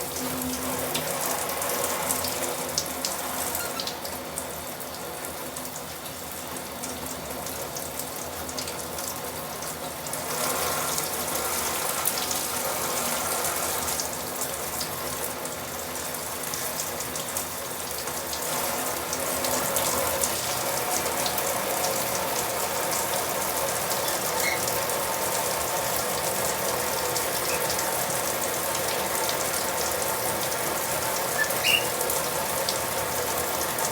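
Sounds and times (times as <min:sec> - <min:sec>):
tap water running: 0:00.0 - 0:33.9
water spattering and dripping: 0:00.0 - 0:33.9.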